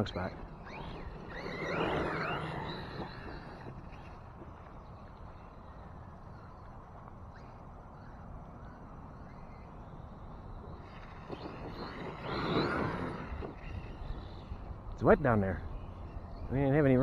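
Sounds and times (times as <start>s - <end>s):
rc truck motor whine: 0.0s - 17.0s.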